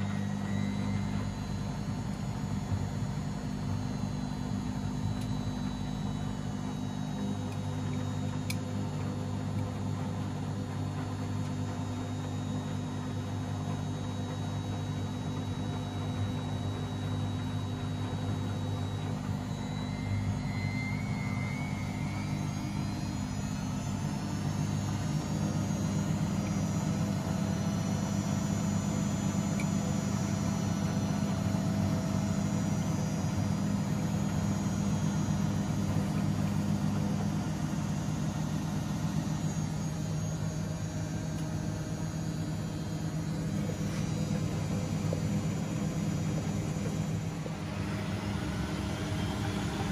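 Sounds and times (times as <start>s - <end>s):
high whine rising in pitch: 0.0s - 9.8s, 12.0s - 49.9s
washing machine motor hum: 0.0s - 49.9s.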